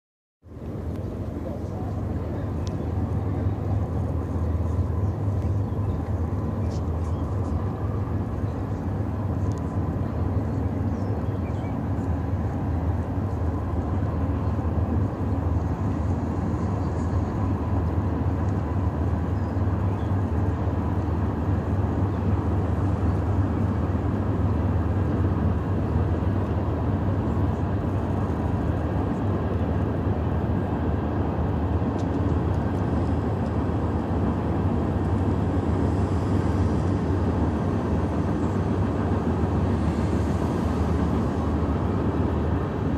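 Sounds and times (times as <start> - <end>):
distant freight train rumble: 0.4 - 42.9.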